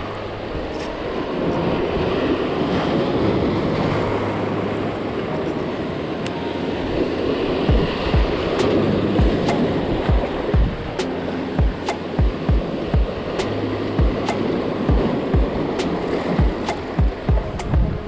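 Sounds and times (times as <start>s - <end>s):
surf breaking over rocks: 0.0s - 18.0s.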